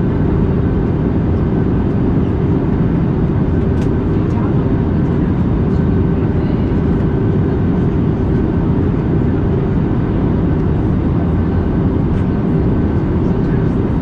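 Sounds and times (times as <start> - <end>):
airliner cabin airflow and engine hum: 0.0 - 14.0.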